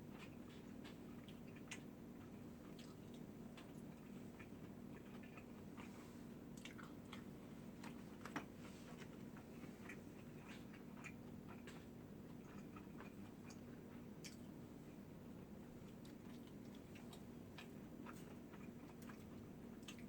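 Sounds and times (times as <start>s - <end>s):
faint steady hum: 0.0s - 20.0s
person chewing food: 0.0s - 20.0s.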